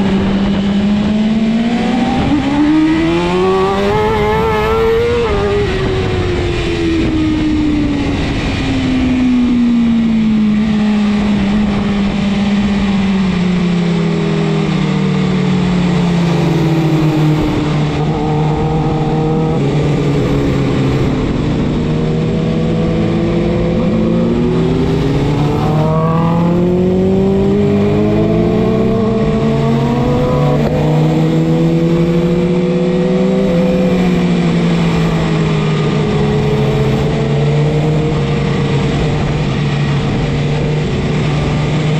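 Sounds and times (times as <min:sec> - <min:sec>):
wind rush: 0:00.0 - 0:14.3, 0:15.4 - 0:41.9
motorcycle engine: 0:00.0 - 0:41.9.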